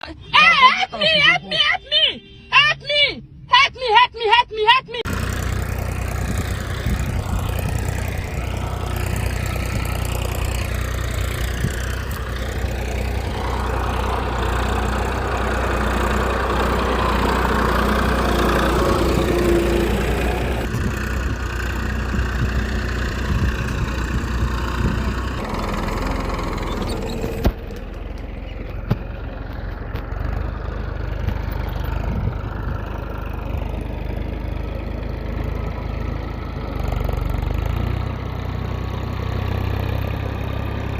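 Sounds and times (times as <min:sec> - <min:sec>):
small engine idling: 0:05.0 - 0:40.9.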